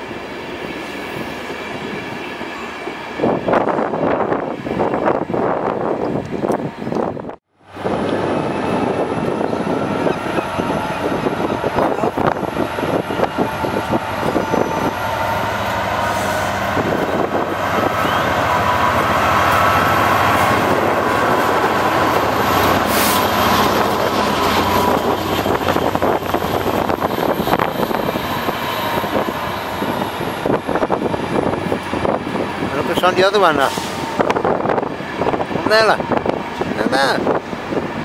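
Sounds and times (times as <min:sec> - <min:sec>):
diesel locomotive passing: 0:00.0 - 0:38.0
coaches rolling on rails: 0:01.4 - 0:38.0.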